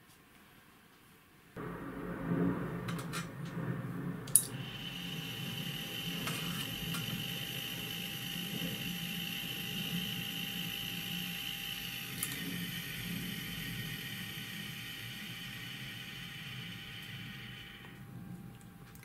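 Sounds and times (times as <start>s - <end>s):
high-pitched electrical whine: 1.6s - 18.2s
low hum: 1.6s - 19.0s.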